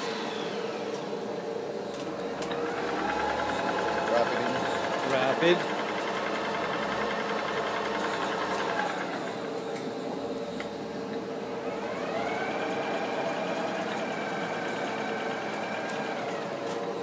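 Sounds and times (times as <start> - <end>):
lathe carriage whine: 0.0 - 17.0
lathe spindle hum: 0.0 - 17.0.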